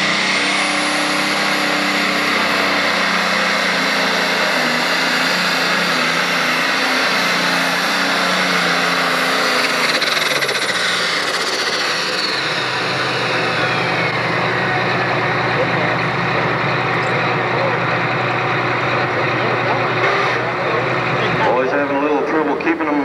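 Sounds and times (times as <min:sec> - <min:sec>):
tractor diesel engine at full load: 0:00.0 - 0:23.0.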